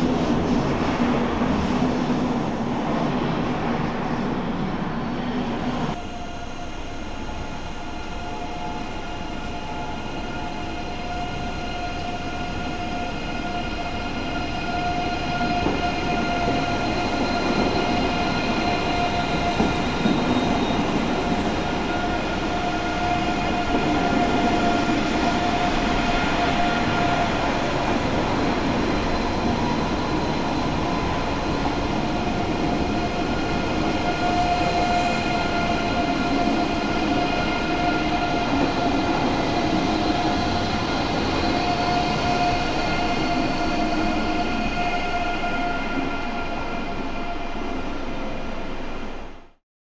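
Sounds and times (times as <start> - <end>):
train running and wheel noise: 0.0 - 49.6.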